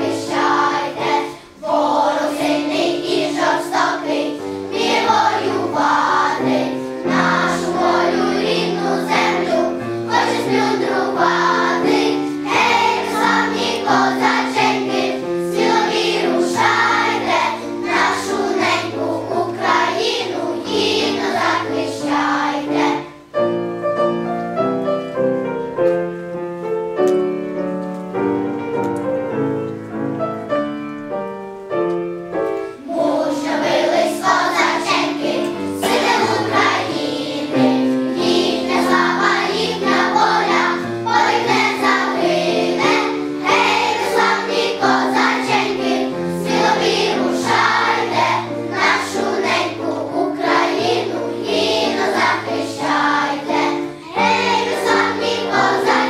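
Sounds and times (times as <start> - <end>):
children's choir singing: 0.0 - 23.5, 32.3 - 56.0
piano accompaniment: 0.0 - 56.0.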